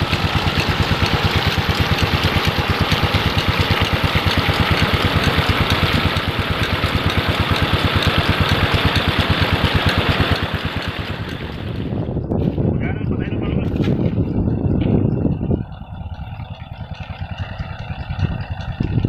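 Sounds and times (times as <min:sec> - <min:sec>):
diesel engine thumping: 0:00.0 - 0:19.0.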